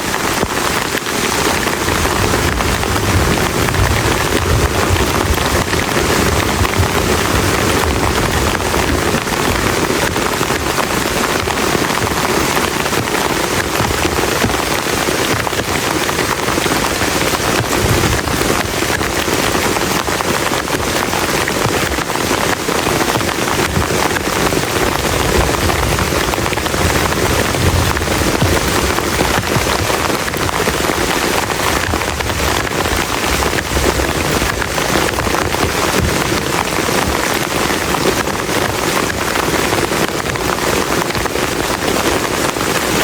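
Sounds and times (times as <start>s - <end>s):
rain on a plastic tarp: 0.0s - 43.0s.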